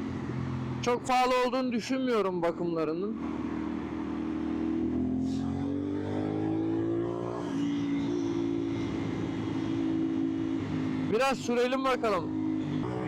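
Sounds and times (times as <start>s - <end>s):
motorcycle engine revving: 0.0s - 1.1s, 3.2s - 13.0s.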